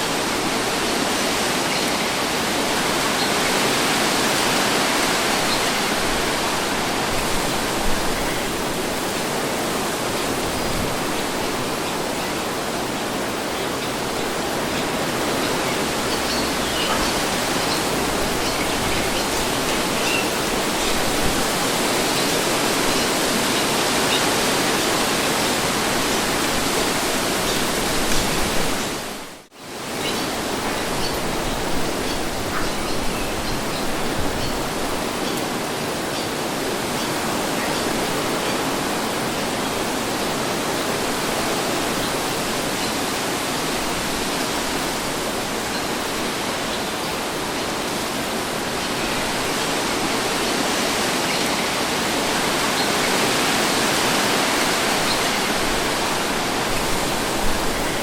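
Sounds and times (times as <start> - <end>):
wind blowing: 0.0 - 58.0.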